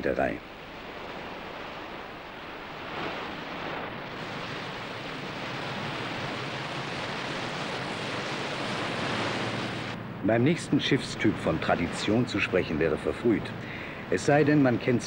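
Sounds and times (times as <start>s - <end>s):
bow wave rushing water: 0.0s - 15.0s.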